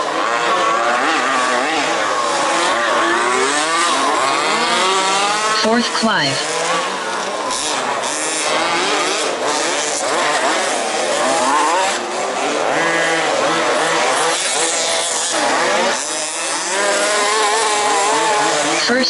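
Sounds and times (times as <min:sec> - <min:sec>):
small two-stroke engines buzzing: 0:00.0 - 0:19.0.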